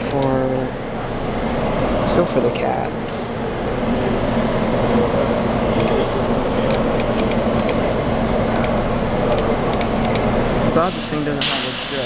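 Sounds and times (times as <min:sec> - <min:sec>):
claw machine humming and whirring: 0:00.0 - 0:12.0.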